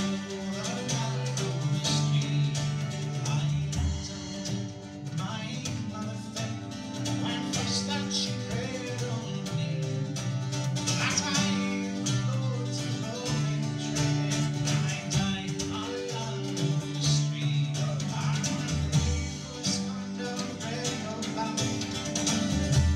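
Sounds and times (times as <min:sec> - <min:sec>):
bouzouki: 0:00.0 - 0:22.9
drum kit: 0:00.0 - 0:22.9
fiddle: 0:00.0 - 0:22.9.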